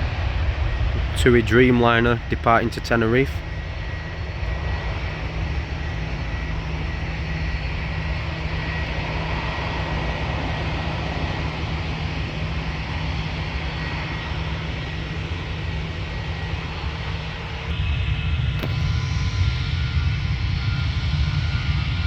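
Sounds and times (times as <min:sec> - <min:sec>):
faint engine whine: 0:00.0 - 0:22.0
jet engines at takeoff: 0:00.0 - 0:22.0.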